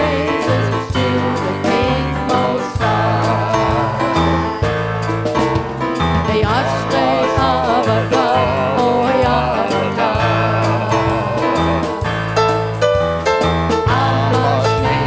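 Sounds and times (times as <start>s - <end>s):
band playing worship music: 0.0s - 15.0s.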